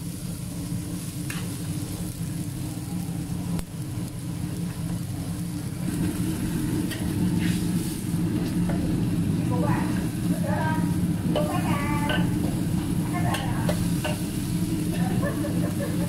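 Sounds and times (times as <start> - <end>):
food sizzling in a wok: 0.0 - 16.0
steady low hum: 0.0 - 16.0.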